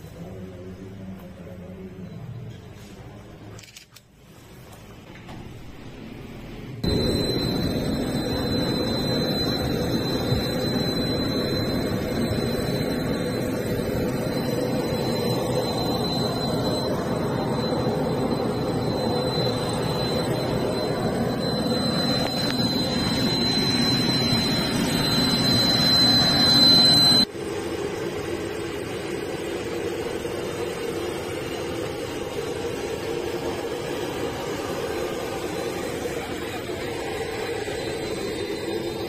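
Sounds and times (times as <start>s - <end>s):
steady hum: 4.3s - 39.0s
high engine whine: 5.7s - 39.0s
aircraft engine rushing noise: 6.8s - 39.0s.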